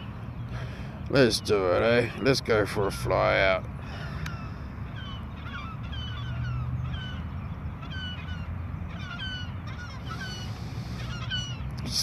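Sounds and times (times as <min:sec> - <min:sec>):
flock of birds calling: 0:00.5 - 0:12.0.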